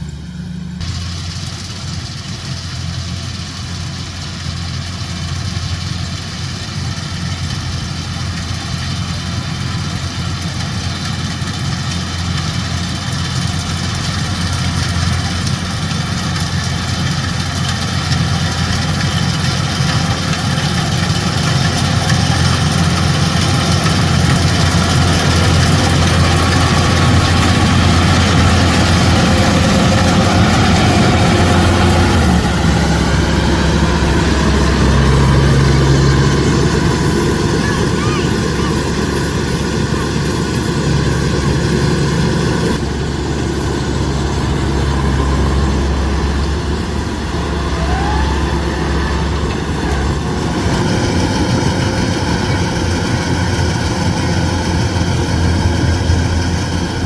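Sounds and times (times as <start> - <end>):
diesel engine droning: 0.0 - 57.0
machinery noise: 0.0 - 57.0.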